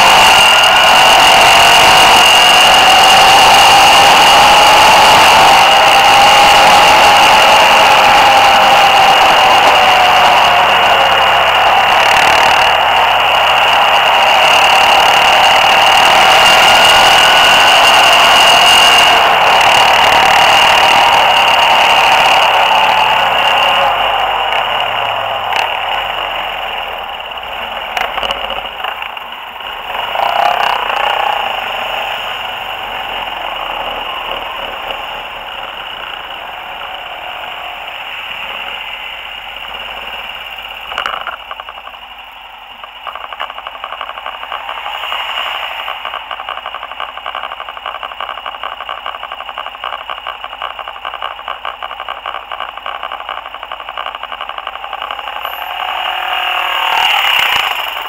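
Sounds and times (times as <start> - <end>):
atv engine noise: 0.0 - 58.0.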